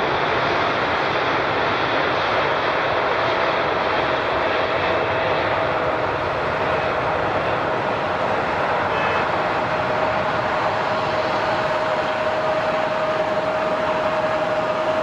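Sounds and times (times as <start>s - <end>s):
airliner engines running: 0.0s - 15.0s.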